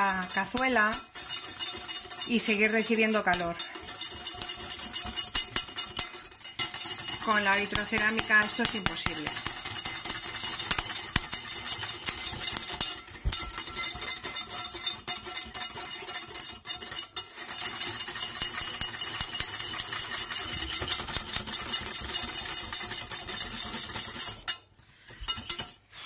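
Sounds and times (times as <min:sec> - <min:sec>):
whisk scraping metal pan: 0:00.0 - 0:26.0.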